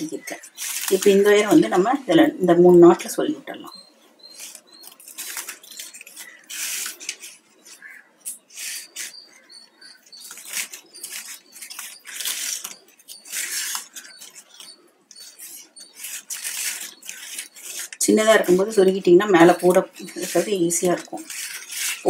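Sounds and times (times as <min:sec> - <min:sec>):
plastic squeaks: 0:00.0 - 0:02.2, 0:03.5 - 0:22.0
plastic wire rustling and scraping: 0:00.0 - 0:22.0.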